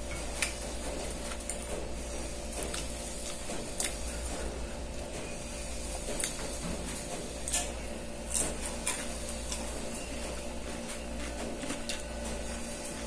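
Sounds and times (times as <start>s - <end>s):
chewing crunches: 0.0s - 5.2s, 5.8s - 13.0s
low mechanical hum: 0.0s - 13.0s.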